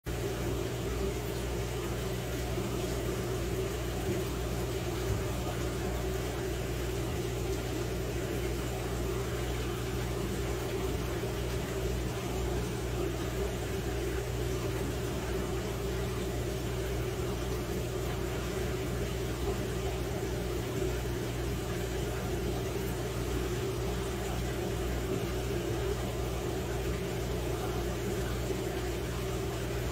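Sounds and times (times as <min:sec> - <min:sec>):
aquarium equipment humming: 0:00.1 - 0:29.9.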